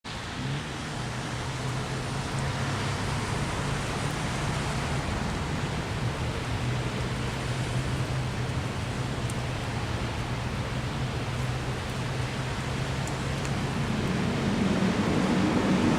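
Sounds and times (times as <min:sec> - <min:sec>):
road and traffic noise: 0:00.0 - 0:15.9
engine hum: 0:00.1 - 0:15.9.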